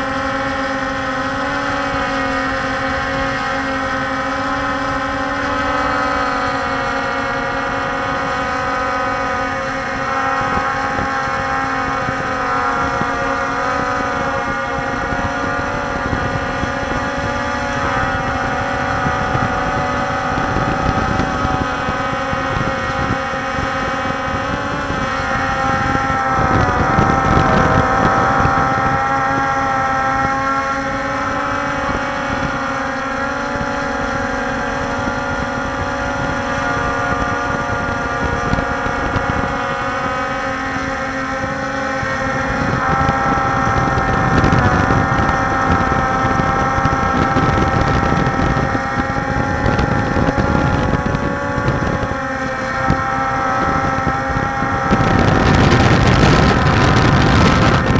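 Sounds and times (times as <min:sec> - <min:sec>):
drone propellers buzzing: 0:00.0 - 0:57.9
wind rumble on microphone: 0:00.0 - 0:57.9.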